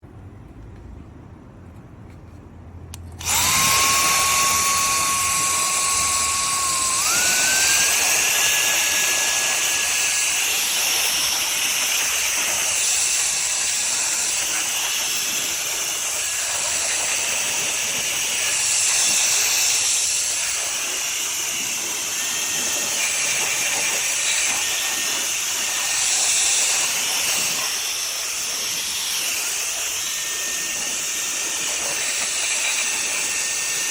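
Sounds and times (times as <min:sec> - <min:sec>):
electric air duster rushing air: 0:03.0 - 0:33.9
high motor whine: 0:03.0 - 0:33.9.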